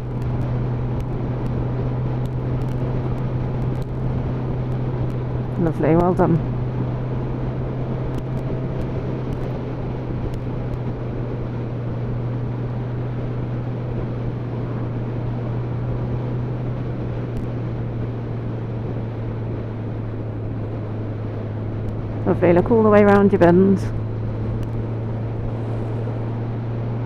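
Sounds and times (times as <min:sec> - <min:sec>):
motorcycle engine drone: 0:00.0 - 0:27.0
wind and road noise: 0:00.0 - 0:27.0.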